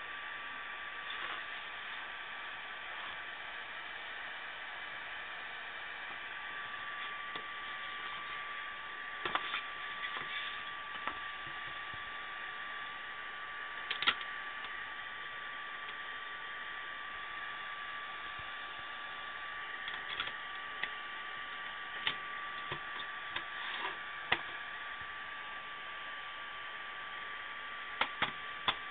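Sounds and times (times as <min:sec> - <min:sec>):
thin constant whine: 0:00.0 - 0:28.9.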